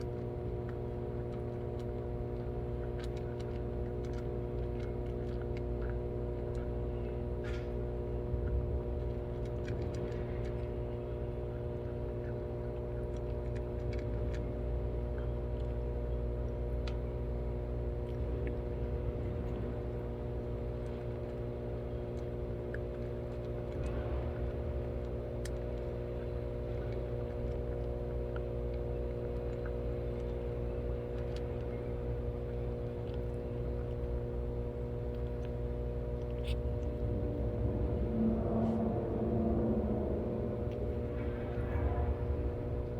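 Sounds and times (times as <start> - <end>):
machine hum with fixed tones: 0.0 - 42.9.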